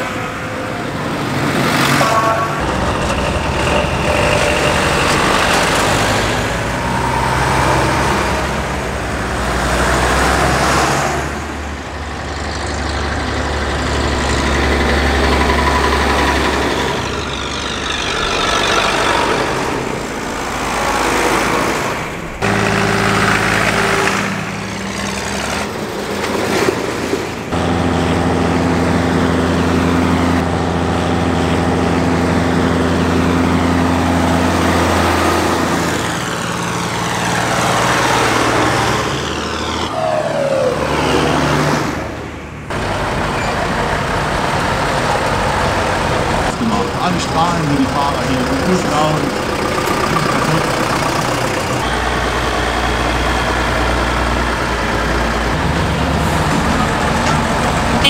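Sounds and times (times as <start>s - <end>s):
diesel tractors driving past: 0.0s - 58.0s.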